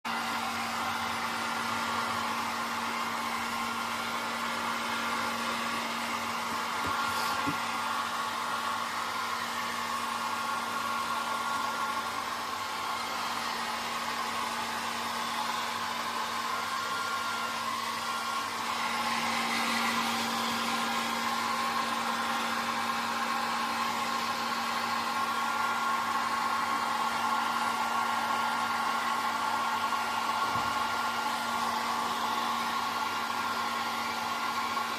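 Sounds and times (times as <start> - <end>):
hair dryer running: 0.0 - 34.9.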